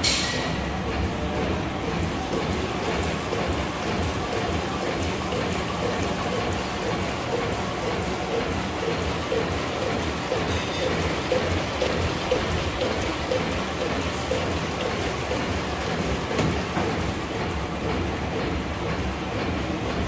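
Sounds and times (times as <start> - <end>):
printing press clattering: 0.0 - 20.0.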